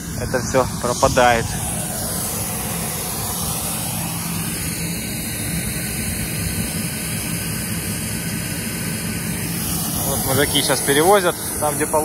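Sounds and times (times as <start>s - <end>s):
hiss: 0.0s - 12.0s
vehicle engine running: 0.0s - 12.0s.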